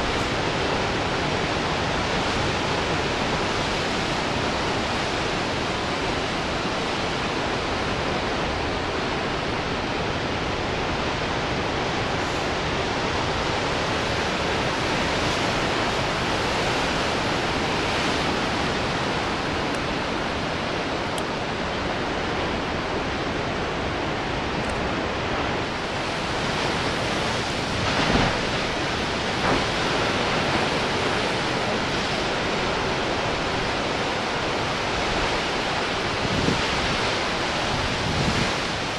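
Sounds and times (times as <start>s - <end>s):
ocean surf breaking on rocks: 0.0s - 38.9s.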